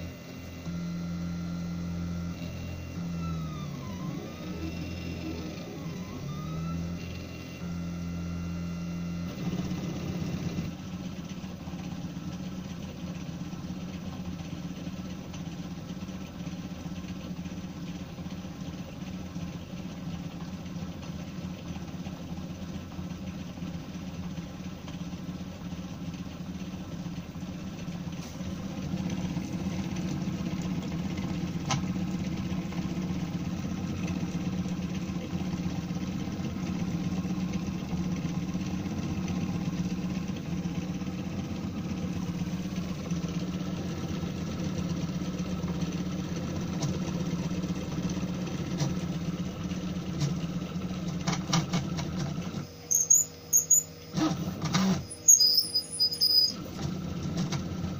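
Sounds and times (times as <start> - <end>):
printer mechanical hum: 0.0 - 57.9.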